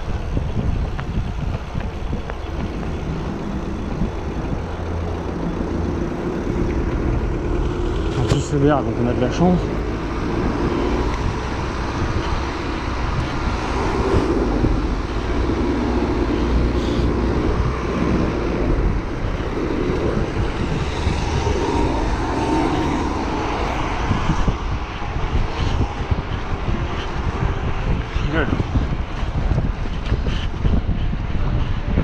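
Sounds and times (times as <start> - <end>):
street traffic: 0.0 - 32.0
wind buffeting microphone: 0.0 - 32.0.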